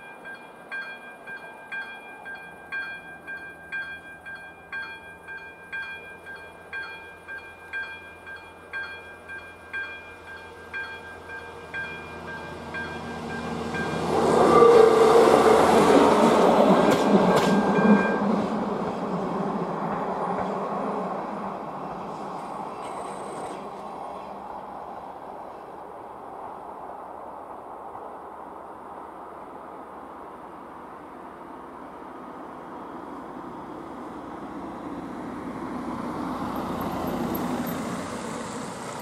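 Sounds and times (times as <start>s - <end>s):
passing train running noise: 0.0s - 39.0s.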